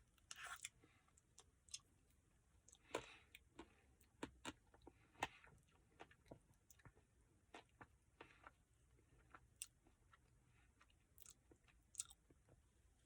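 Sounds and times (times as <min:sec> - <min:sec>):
person chewing: 0:00.2 - 0:01.9, 0:02.7 - 0:12.4.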